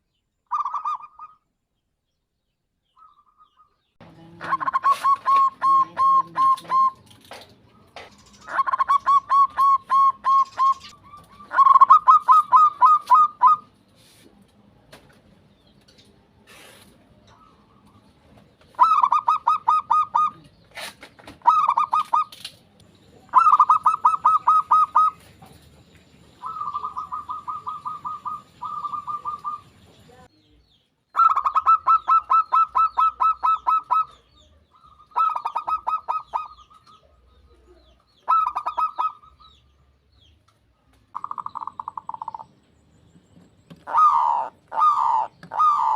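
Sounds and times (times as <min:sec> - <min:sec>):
doves cooing: 0:00.5 - 0:01.4, 0:03.0 - 0:13.8, 0:16.5 - 0:22.4, 0:23.1 - 0:30.1, 0:31.2 - 0:39.7, 0:41.1 - 0:42.7, 0:43.4 - 0:45.9.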